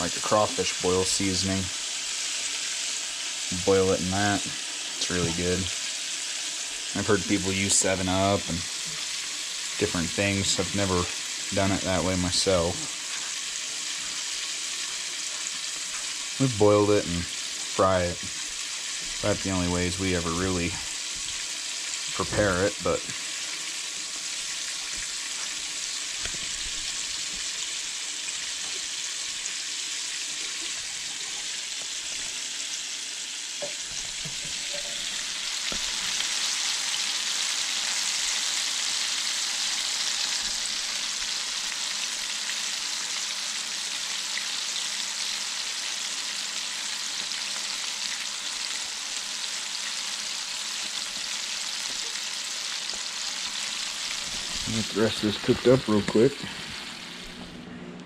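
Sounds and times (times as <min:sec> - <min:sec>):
fish frying in hot oil: 0:00.0 - 0:57.3.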